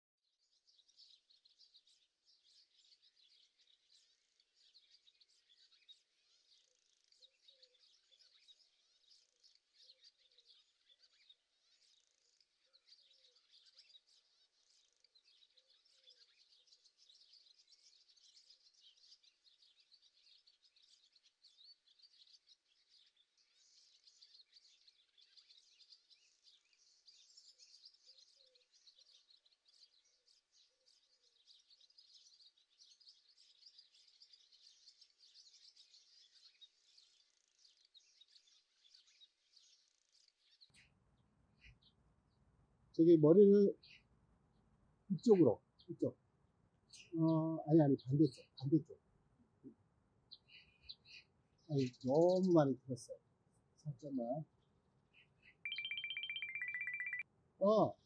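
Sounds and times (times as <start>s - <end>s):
small birds chirping: 0.2s - 58.0s.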